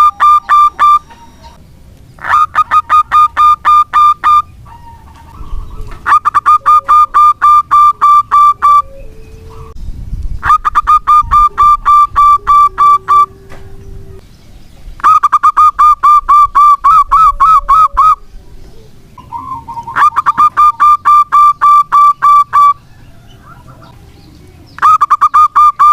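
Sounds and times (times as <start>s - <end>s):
dove calling rapid notes: 0.0s - 1.6s, 2.2s - 9.8s, 10.4s - 14.2s, 15.0s - 25.9s.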